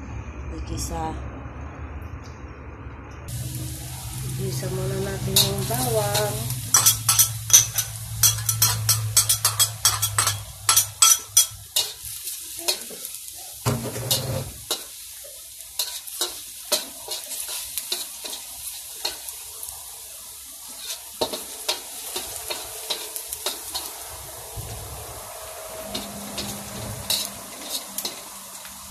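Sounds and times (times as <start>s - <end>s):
utensil scraping and tapping wok: 3.3s - 19.4s, 20.6s - 28.9s
garlic sizzling in hot oil: 3.3s - 28.9s.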